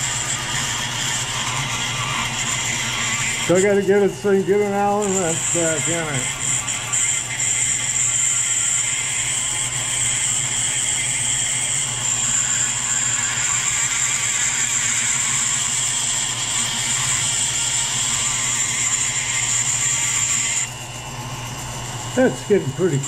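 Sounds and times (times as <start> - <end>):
rotary tool grinding steel: 0.0 - 23.0.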